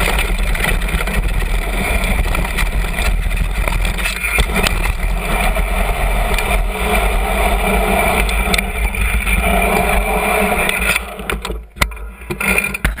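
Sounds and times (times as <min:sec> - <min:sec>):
bike clicks and knocks: 0:00.0 - 0:10.0, 0:10.6 - 0:13.0
bike tyres crunching on gravel: 0:00.0 - 0:11.6.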